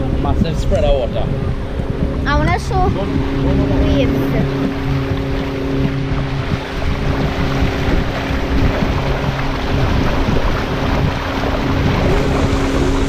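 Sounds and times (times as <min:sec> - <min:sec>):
motorboat engine running: 0:00.0 - 0:13.0
water rushing along hull: 0:00.0 - 0:13.0
wind buffeting microphone: 0:00.0 - 0:13.0.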